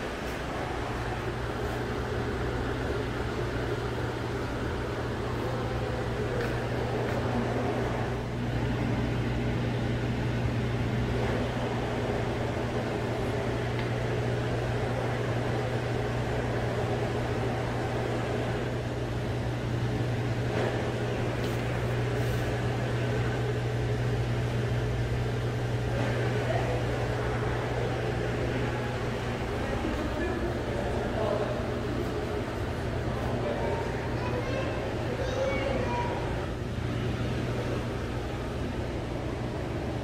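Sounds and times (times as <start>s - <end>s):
aquarium equipment humming: 0.0s - 40.0s.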